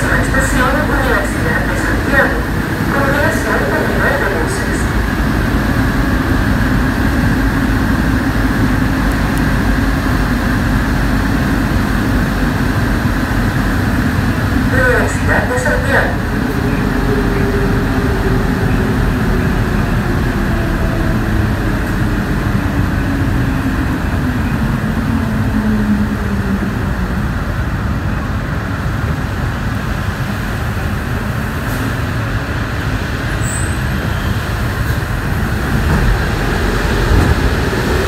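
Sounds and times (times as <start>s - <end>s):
metro train running in tunnel: 0.0s - 38.0s.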